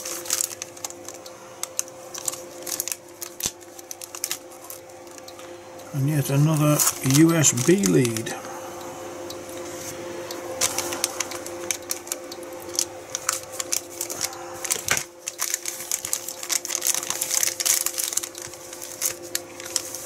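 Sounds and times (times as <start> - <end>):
plastic bag crinkling: 0.0 - 8.5, 10.6 - 20.0.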